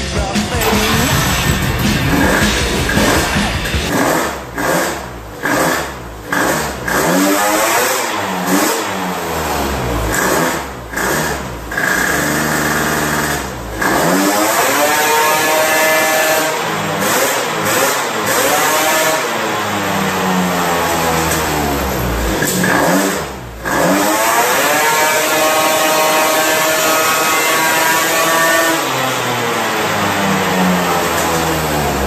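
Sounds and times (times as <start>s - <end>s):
scooter engine revving: 0.0s - 32.0s.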